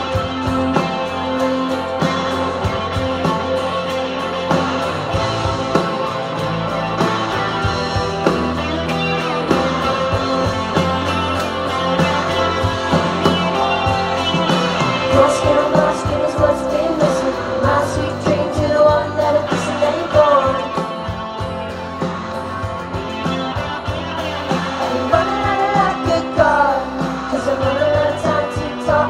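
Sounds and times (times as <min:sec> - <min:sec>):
electric guitars: 0:00.0 - 0:29.0.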